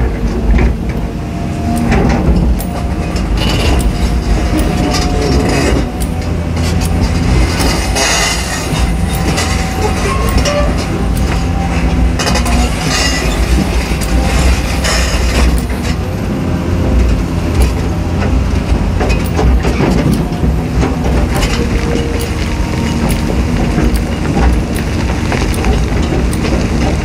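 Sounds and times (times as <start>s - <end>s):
excavator diesel engine under load: 0.0s - 27.0s
hydraulic whine: 0.0s - 27.0s
bucket clanking and rattling: 1.9s - 16.0s, 17.0s - 27.0s.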